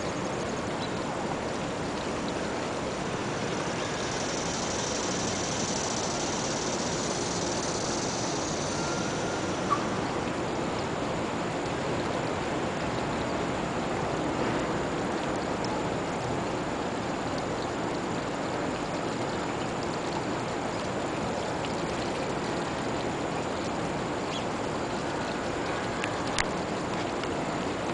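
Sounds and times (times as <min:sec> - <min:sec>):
fountain water splashing: 0:00.0 - 0:27.9.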